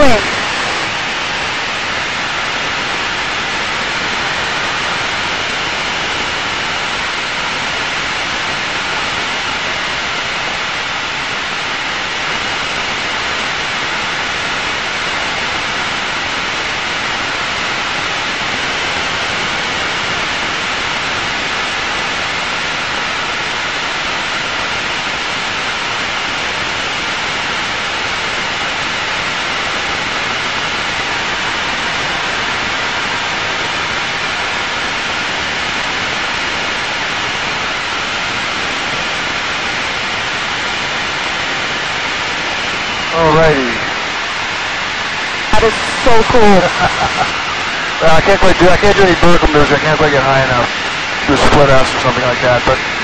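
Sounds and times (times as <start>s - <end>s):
jet engine and rushing air hiss: 0.0s - 53.0s.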